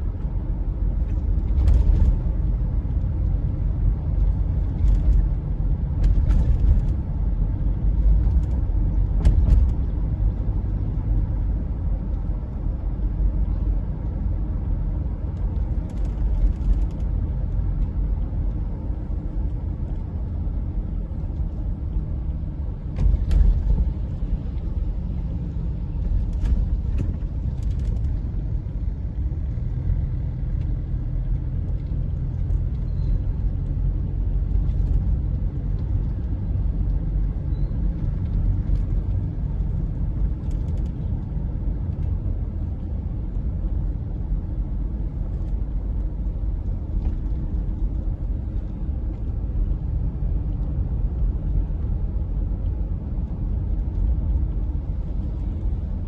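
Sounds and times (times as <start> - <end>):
road vehicle low rumble: 0.0 - 56.0.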